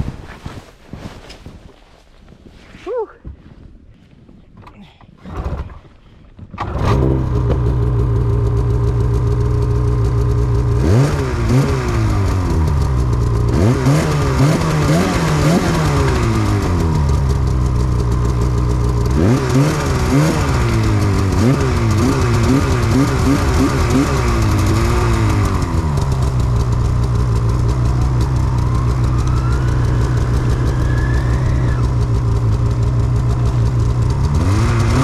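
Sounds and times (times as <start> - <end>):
snowmobile engine revving: 6.6 - 35.0
snowmobile engine idling: 7.0 - 35.0.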